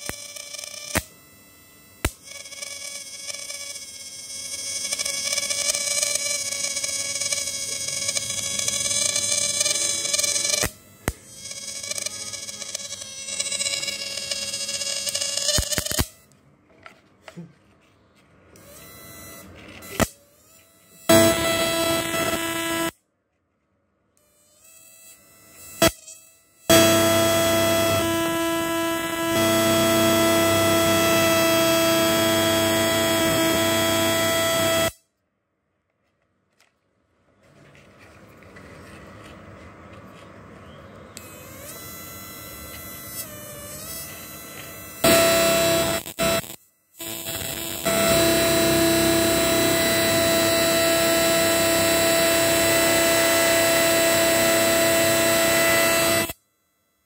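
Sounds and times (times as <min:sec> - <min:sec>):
electric inverter buzzing: 0:00.0 - 0:17.5, 0:18.4 - 0:23.0, 0:24.2 - 0:35.1, 0:38.6 - 0:57.0.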